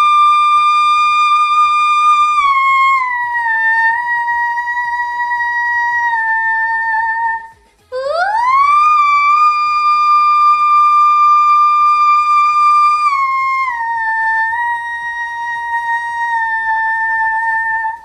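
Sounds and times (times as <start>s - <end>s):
woman singing high whistle note: 0.0s - 18.0s.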